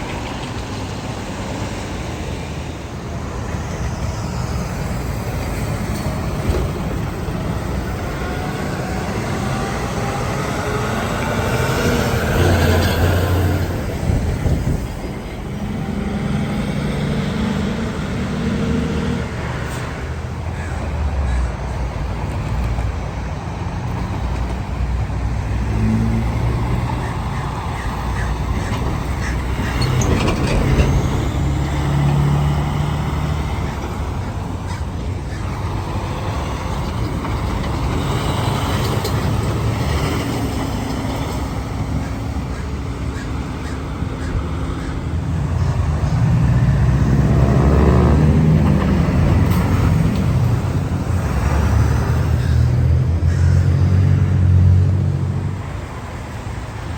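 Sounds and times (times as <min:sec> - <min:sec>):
trucks driving past: 0:00.0 - 0:56.9.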